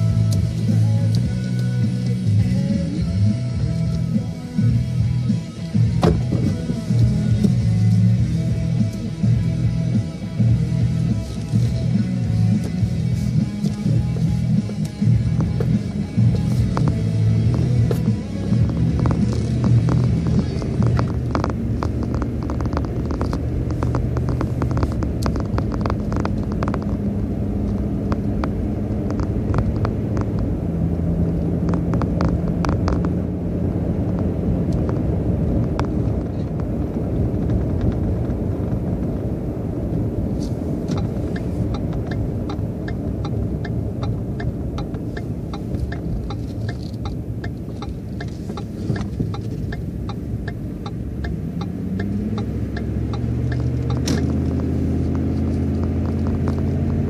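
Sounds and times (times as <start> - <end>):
car engine running: 0.0 - 57.0
tyres rumbling on road: 0.0 - 57.0.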